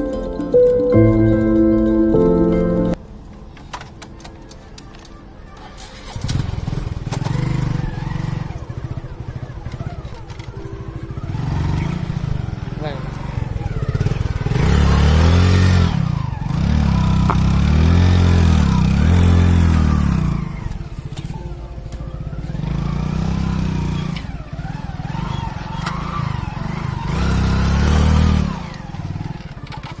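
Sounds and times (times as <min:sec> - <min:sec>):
motorcycle engine revving: 0:05.6 - 0:30.0.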